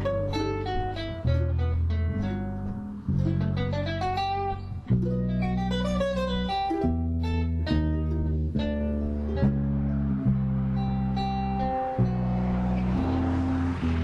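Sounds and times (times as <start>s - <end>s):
acoustic guitar music with bass: 0.0s - 14.0s.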